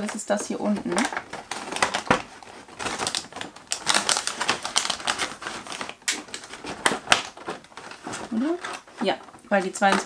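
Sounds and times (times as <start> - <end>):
cardboard and plastic rustling: 0.0 - 10.0.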